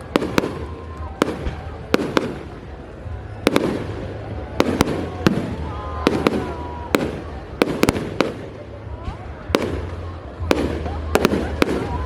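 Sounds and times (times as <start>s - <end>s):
firework bangs: 0.0s - 12.0s
fireworks rumble and crackle: 0.0s - 12.0s.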